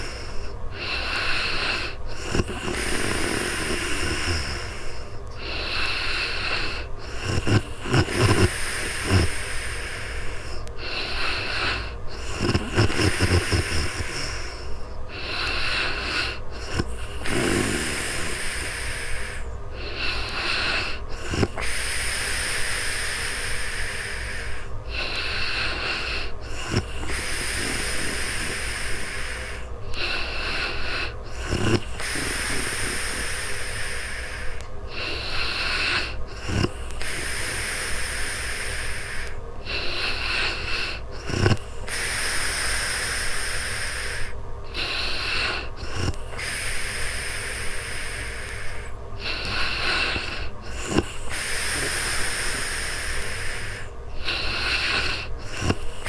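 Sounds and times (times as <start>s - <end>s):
low snort: 0.0s - 56.0s
woman snoring: 0.0s - 56.0s.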